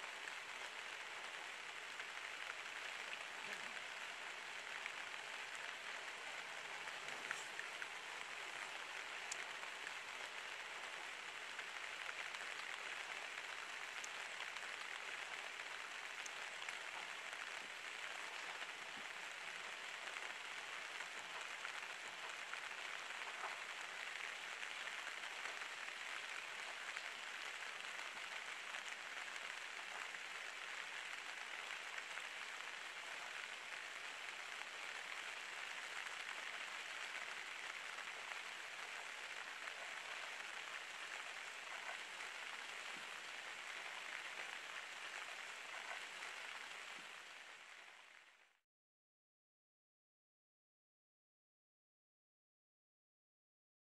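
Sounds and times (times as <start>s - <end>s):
rain on foliage: 0.0s - 48.6s.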